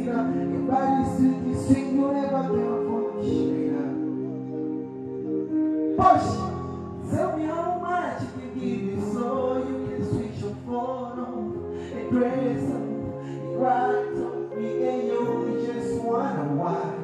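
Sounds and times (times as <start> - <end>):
man singing into microphone: 0.0 - 4.3, 6.0 - 17.0
backing music track: 0.0 - 17.0.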